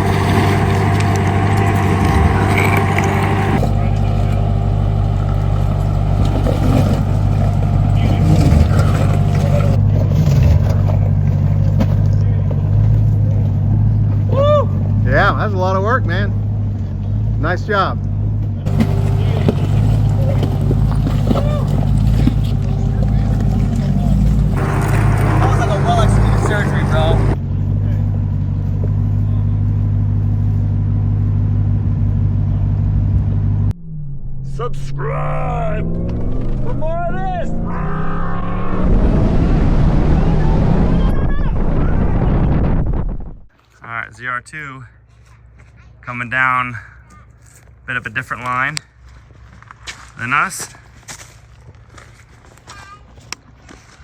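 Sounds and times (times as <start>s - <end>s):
truck engine low drone: 0.0s - 43.6s.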